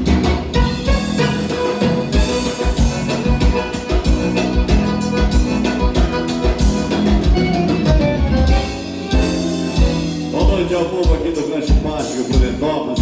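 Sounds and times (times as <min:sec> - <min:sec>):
live dance band playing: 0:00.0 - 0:13.0
steady drum beat: 0:00.0 - 0:13.0.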